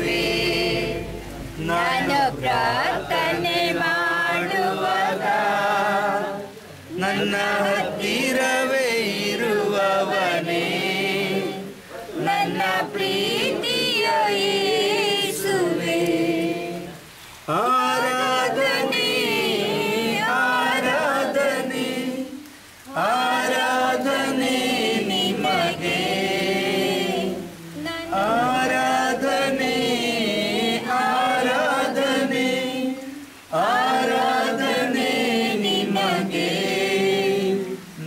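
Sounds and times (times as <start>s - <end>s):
group singing unaccompanied: 0.0s - 38.0s.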